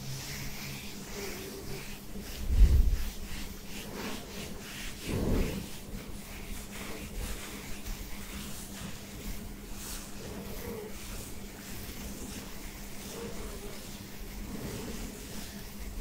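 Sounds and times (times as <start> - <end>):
fingertips scratching scalp: 0.0 - 16.0.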